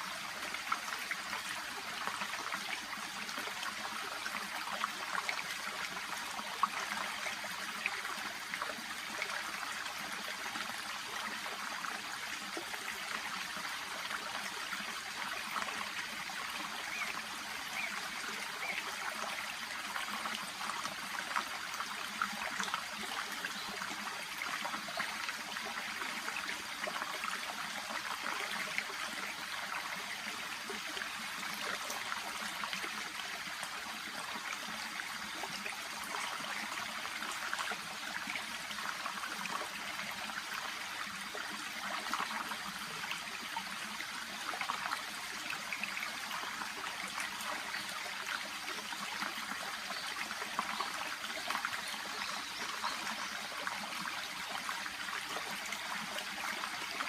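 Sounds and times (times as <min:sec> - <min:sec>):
brook babbling: 0:00.0 - 0:57.0.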